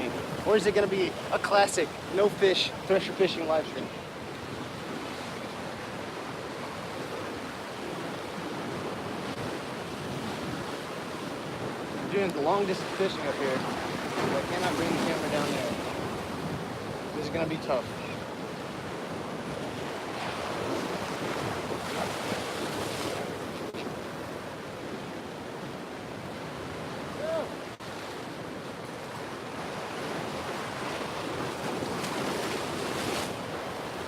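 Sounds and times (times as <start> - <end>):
ocean surf washing: 0.0 - 34.0
wind buffeting microphone: 4.1 - 34.0.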